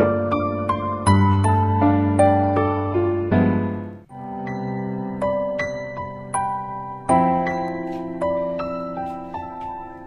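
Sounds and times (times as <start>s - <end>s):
keyboard melody: 0.0s - 10.0s.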